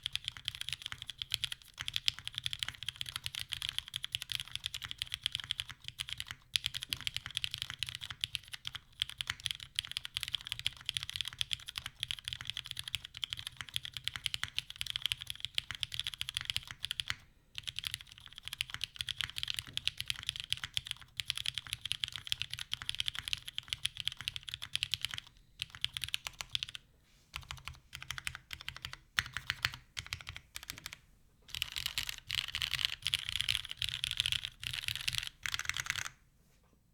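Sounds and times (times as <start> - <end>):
mechanical keyboard typing: 0.0 - 26.8, 27.4 - 36.2.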